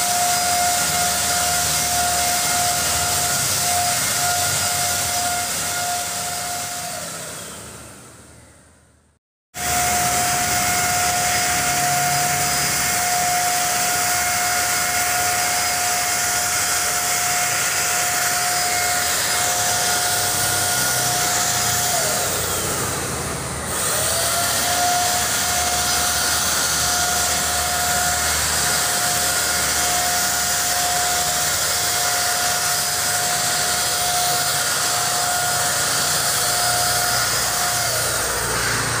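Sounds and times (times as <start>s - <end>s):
paint spray gun whining: 0.0s - 39.0s.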